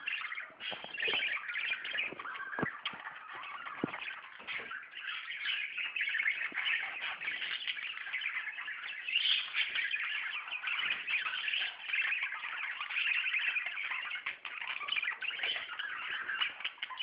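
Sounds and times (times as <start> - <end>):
budgerigars chattering and warbling: 0.0 - 17.0.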